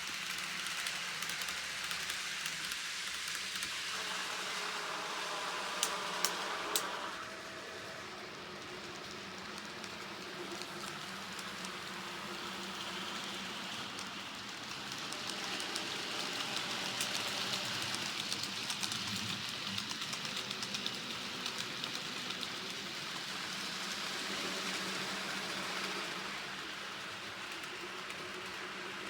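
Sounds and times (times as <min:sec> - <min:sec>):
model train wheels on rail: 0:00.0 - 0:29.0.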